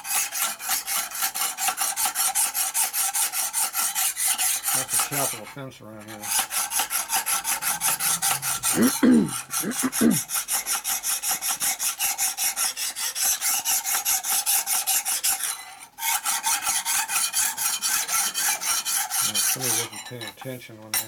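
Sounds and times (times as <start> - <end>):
abrasive rasping on metal: 0.0 - 20.2.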